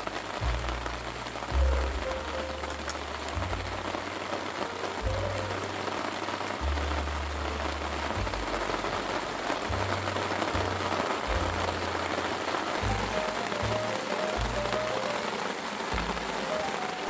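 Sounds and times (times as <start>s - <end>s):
low bass background music: 0.0s - 16.8s
rain falling on a surface: 0.0s - 17.0s.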